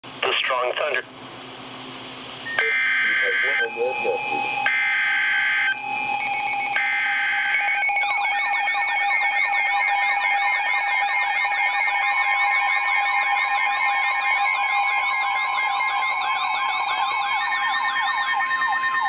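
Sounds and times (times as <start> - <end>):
steady high alarm tone: 2.4 - 19.0.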